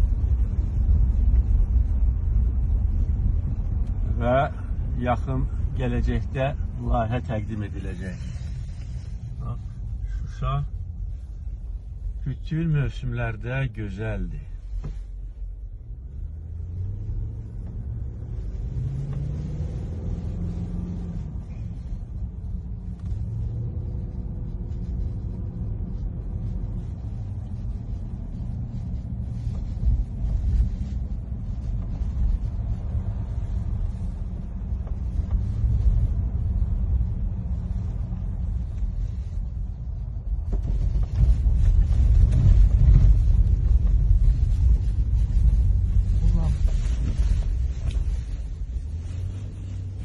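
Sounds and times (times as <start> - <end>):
car driving rumble inside cabin: 0.0 - 50.0.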